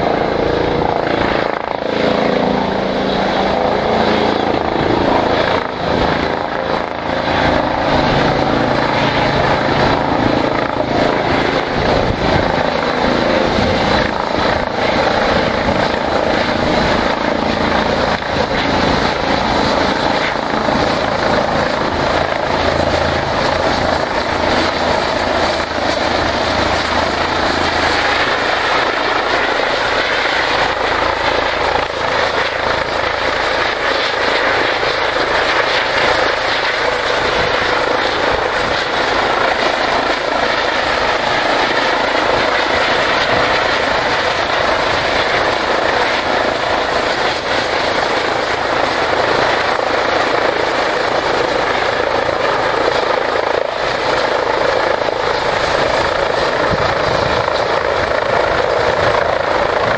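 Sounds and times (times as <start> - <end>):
helicopter rotor and engine noise: 0.0 - 59.9
high turbine whine: 0.0 - 59.9.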